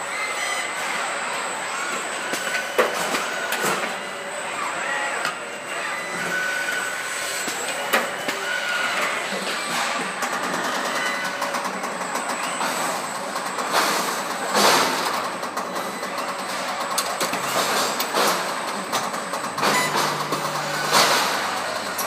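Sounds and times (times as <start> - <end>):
steady machinery noise: 0.0 - 22.0.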